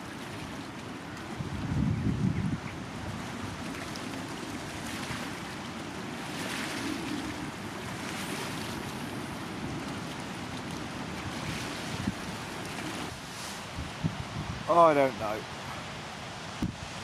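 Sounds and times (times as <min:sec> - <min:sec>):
waves breaking on a stony shore: 0:00.0 - 0:17.0
wind on microphone: 0:01.1 - 0:17.0.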